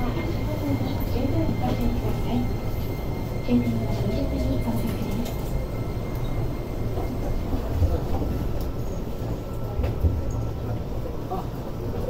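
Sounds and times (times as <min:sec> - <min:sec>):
train car rumble and hum: 0:00.0 - 0:12.0.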